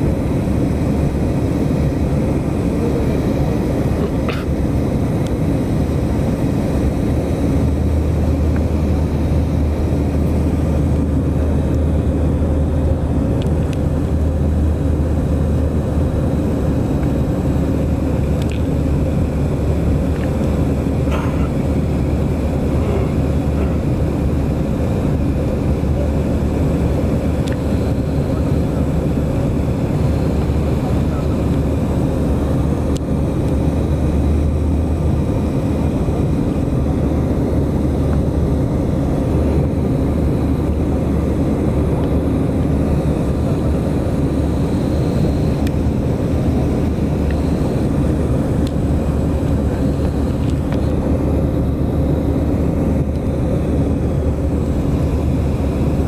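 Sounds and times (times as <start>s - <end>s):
airliner cabin engine drone: 0.0s - 56.0s.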